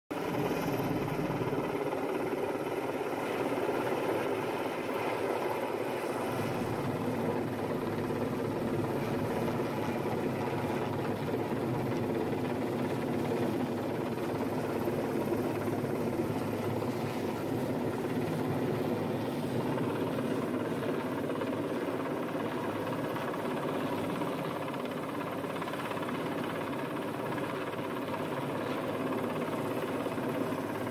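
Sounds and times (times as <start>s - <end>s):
helicopter hovering: 0.1s - 30.9s.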